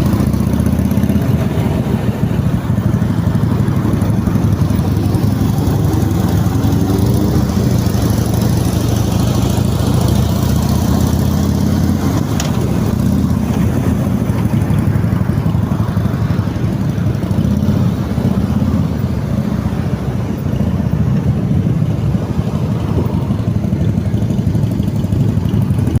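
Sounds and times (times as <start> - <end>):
many motorcycle engines rumbling: 0.0 - 26.0.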